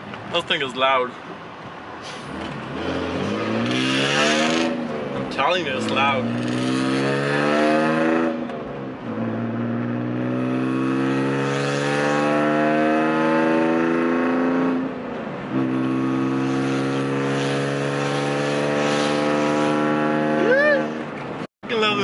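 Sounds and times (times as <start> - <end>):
car engine accelerating: 2.3 - 21.4.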